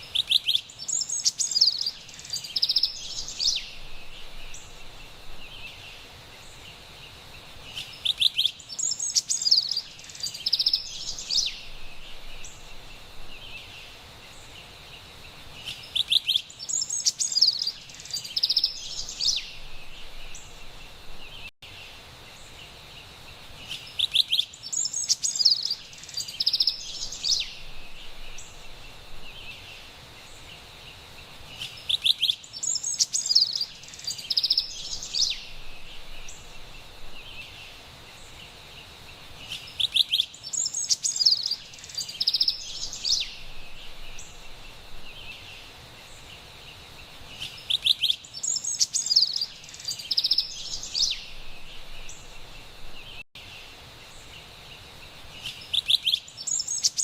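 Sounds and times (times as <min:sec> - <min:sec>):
wren singing: 0:00.0 - 0:06.6, 0:07.6 - 0:14.6, 0:15.6 - 0:21.5, 0:23.6 - 0:30.6, 0:31.5 - 0:38.5, 0:39.3 - 0:53.2, 0:55.3 - 0:57.0.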